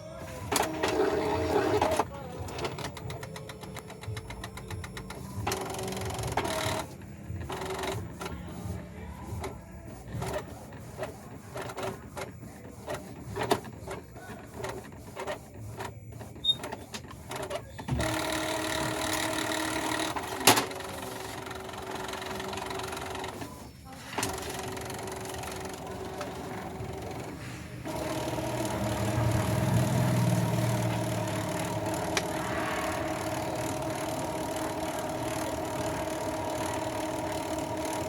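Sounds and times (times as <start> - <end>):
printer motors whirring: 0.0 - 38.0
printer clicks and ticks: 0.3 - 38.0.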